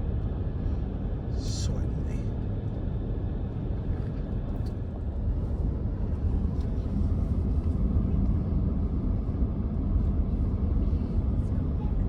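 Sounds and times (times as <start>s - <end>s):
truck engine and tyre rumble: 0.0s - 12.0s.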